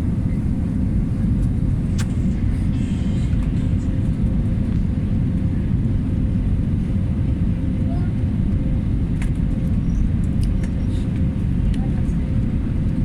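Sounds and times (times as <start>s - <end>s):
aircraft engines and airflow rumble: 0.0s - 13.0s.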